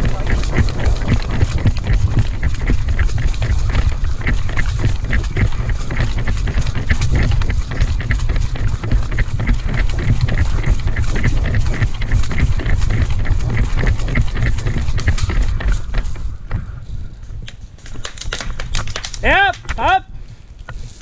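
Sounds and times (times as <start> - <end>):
running footsteps: 0.0 - 21.0
steady low rumble: 0.0 - 21.0.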